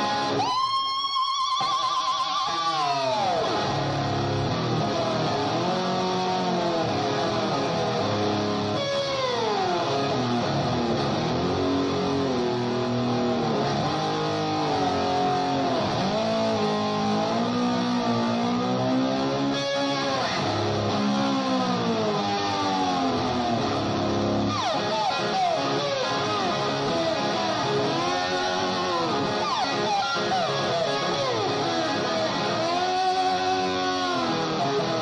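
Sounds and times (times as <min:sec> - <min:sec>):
slide electric guitar glides: 0:00.0 - 0:35.0.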